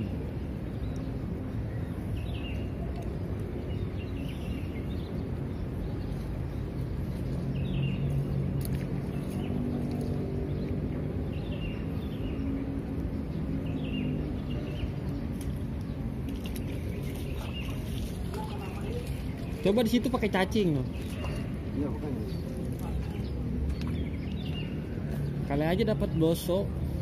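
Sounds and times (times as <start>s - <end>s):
small birds chirping: 0.6s - 26.7s.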